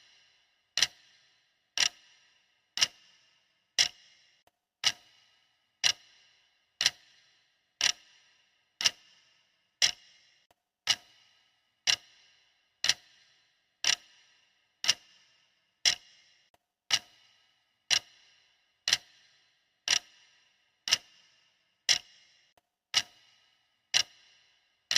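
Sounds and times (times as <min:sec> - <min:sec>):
clock ticking: 0:00.0 - 0:24.9.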